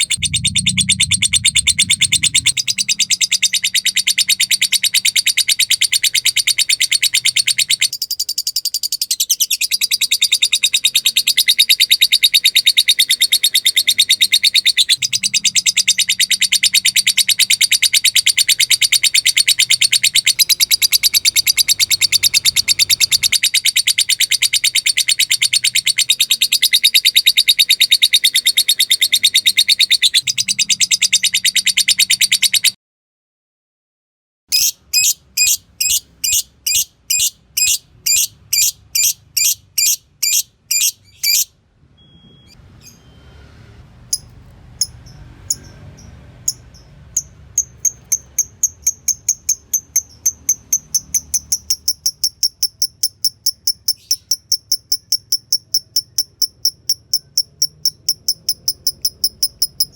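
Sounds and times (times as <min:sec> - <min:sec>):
bird chattering trill: 0:00.0 - 0:32.8, 0:34.5 - 0:41.5, 0:44.1 - 0:59.9
sharp bird chirps: 0:00.0 - 0:32.8, 0:34.5 - 0:41.5, 0:44.1 - 0:59.9.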